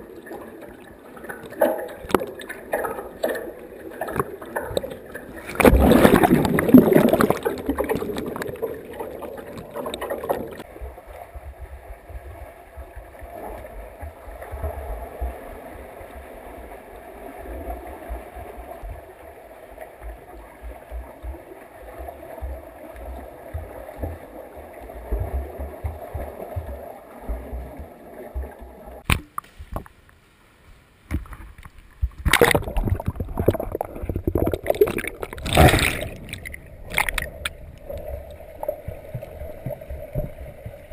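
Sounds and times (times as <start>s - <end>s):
underwater rushing and bubbling: 0.0s - 40.9s
water splashing: 0.0s - 40.9s.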